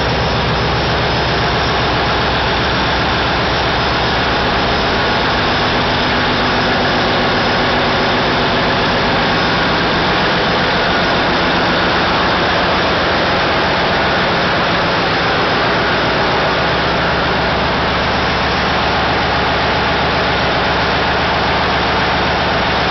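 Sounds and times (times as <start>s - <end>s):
diesel engines droning: 0.0s - 22.9s.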